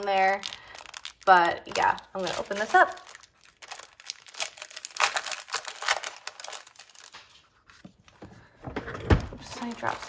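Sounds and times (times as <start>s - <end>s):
packaging crinkling and rustling: 0.0s - 8.2s, 9.1s - 10.0s.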